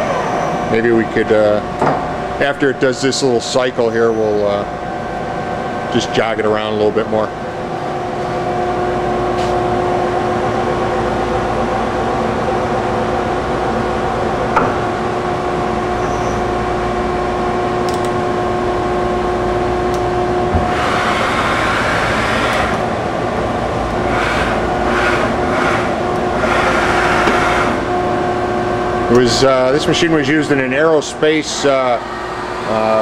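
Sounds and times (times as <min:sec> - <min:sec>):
machine whine: 0:00.0 - 0:33.0.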